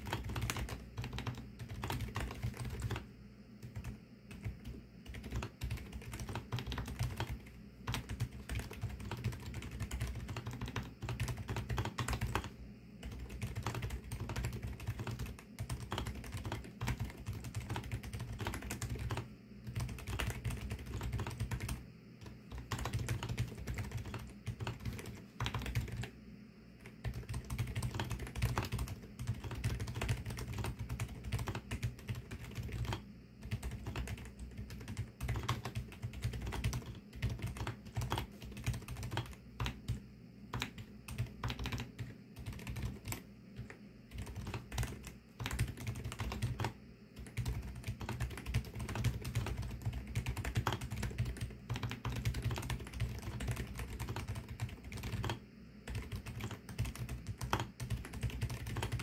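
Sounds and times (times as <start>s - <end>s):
typing on mechanical keyboard: 0.0s - 26.1s, 26.8s - 59.0s.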